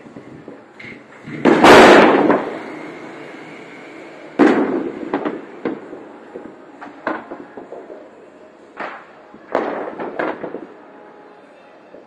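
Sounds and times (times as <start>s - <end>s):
fireworks bang: 0.0s - 8.1s, 8.7s - 10.8s
fireworks crack and pops: 0.0s - 10.8s.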